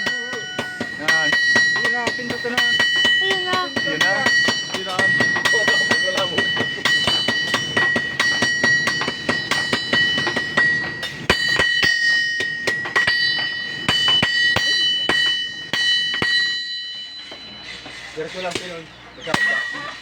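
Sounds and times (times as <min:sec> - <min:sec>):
anvil ringing: 0:00.0 - 0:20.0
hammers striking anvil: 0:00.0 - 0:20.0.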